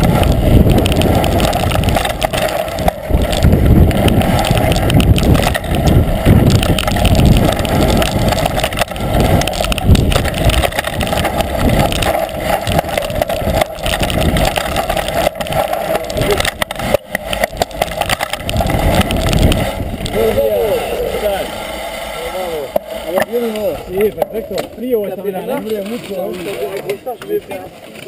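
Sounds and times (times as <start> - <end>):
bike knocking over bumps: 0.0 - 20.3, 22.7 - 27.6
wind buffeting: 0.0 - 25.6
bike rattle: 0.0 - 28.0.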